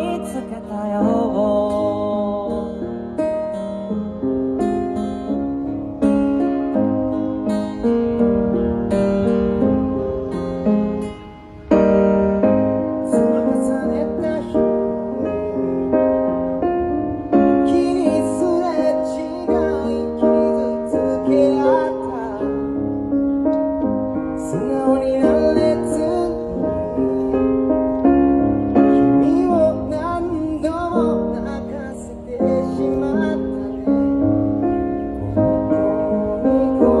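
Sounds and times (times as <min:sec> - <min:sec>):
acoustic guitar: 0:00.0 - 0:37.0
keyboard playing piano chords: 0:00.0 - 0:37.0.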